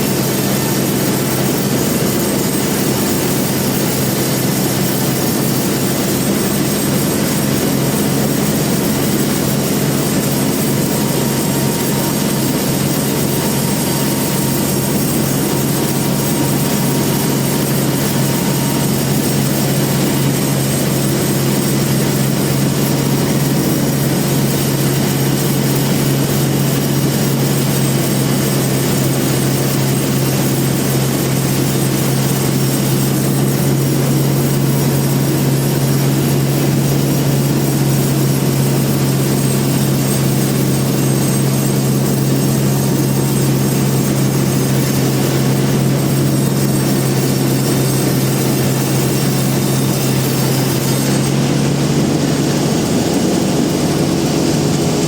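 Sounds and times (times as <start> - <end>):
band sawmill machinery humming: 0.0 - 55.0.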